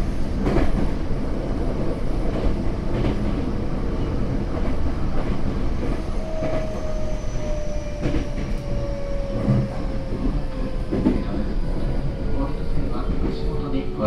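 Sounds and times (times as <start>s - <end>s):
train wheel and track rumble: 0.0s - 14.0s
rail-joint clicks: 2.3s - 14.0s.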